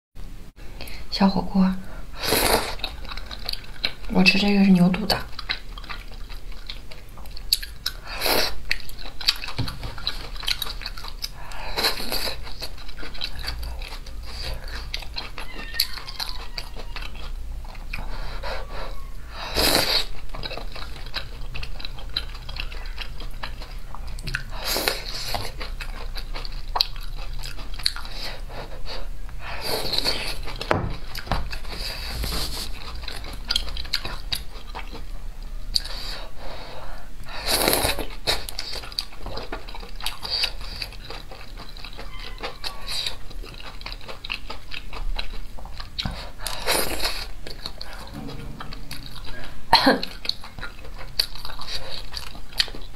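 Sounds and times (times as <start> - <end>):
chewing and crunching food: 2.1 - 52.9.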